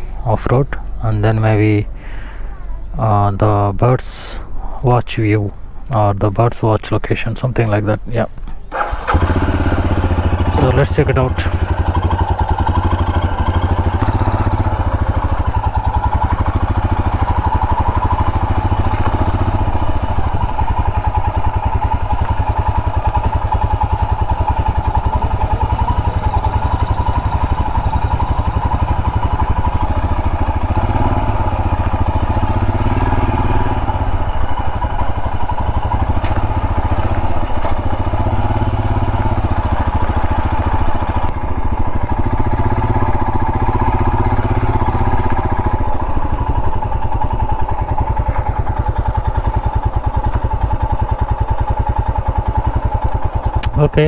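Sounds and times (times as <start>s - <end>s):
motorcycle engine thumping: 7.6s - 53.7s.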